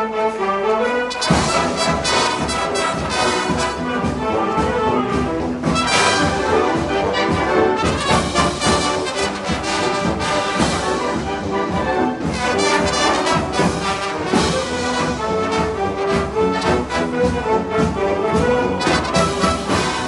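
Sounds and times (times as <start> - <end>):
marching band brass: 0.0 - 20.0
steady drum beat: 1.2 - 20.0.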